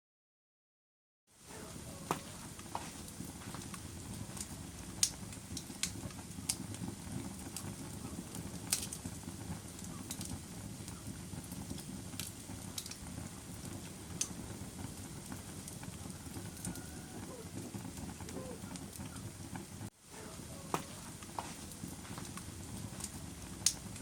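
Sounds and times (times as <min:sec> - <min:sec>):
wood fire crackling: 0:01.3 - 0:24.0.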